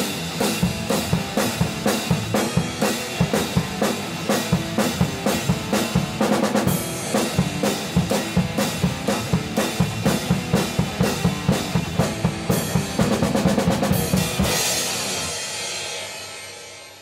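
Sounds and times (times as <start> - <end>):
rock drum beat: 0.0 - 17.0.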